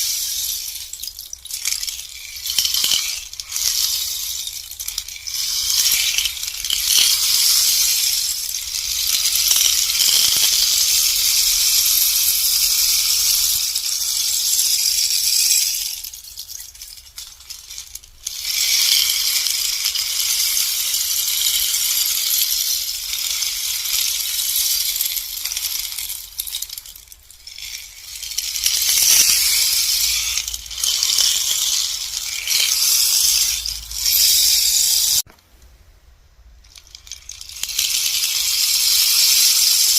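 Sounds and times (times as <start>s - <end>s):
rainstick pattering hiss: 0.0s - 35.2s.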